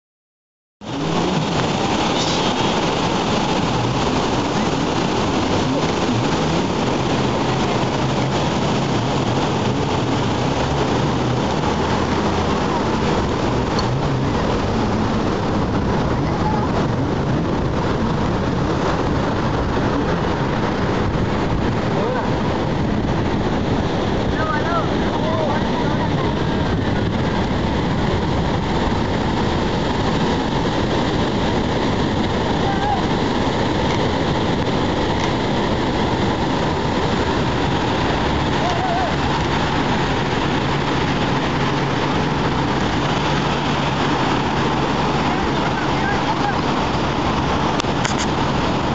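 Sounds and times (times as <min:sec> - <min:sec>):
breaking surf: 0:00.8 - 0:48.9
low engine hum: 0:00.8 - 0:48.9
wind on microphone: 0:00.8 - 0:48.9.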